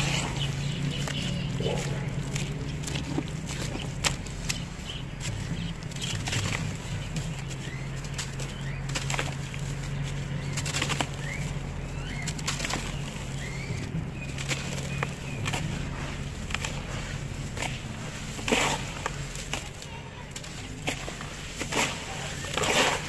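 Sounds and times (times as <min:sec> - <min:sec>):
birds chirping: 0:00.0 - 0:23.0
steady low hum: 0:00.0 - 0:23.0.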